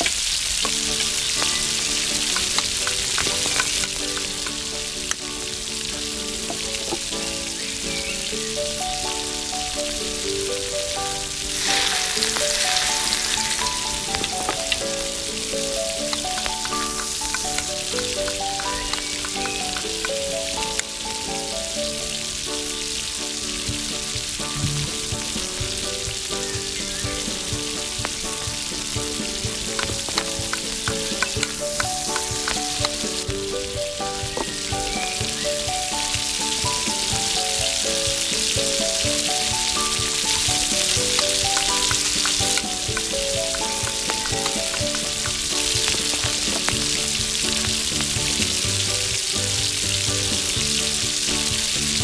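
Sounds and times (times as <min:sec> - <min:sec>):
soft melodic background music: 0:00.0 - 0:52.0
vegetables sizzling in a wok: 0:00.0 - 0:52.0.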